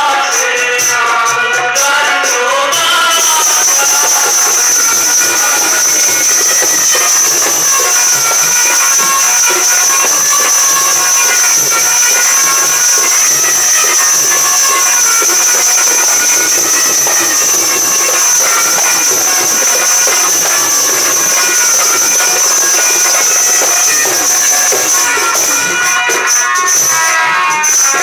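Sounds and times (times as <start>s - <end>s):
loud steady hiss: 2.8s - 28.0s
high-pitched whine: 3.0s - 28.0s
faint scattered tones: 3.4s - 27.0s.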